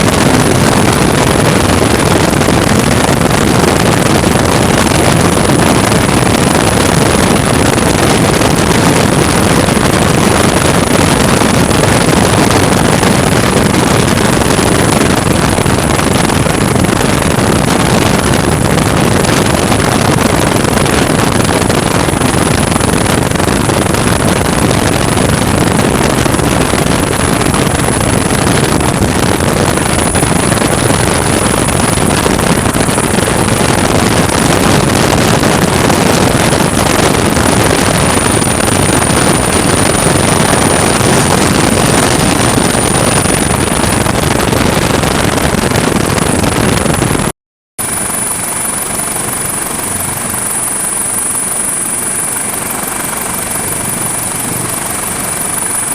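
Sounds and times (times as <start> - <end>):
helicopter rotor and engine noise: 0.0 - 55.9
high-pitched turbine whine: 0.0 - 55.9.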